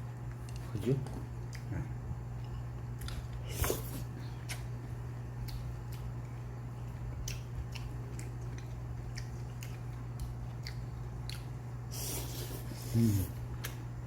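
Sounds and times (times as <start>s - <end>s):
person chewing food: 0.0s - 14.0s
steady low hum: 0.0s - 14.0s.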